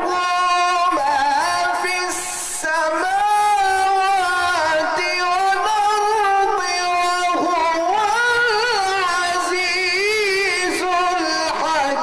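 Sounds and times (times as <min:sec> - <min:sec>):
man chanting melodically into microphone: 0:00.0 - 0:12.0.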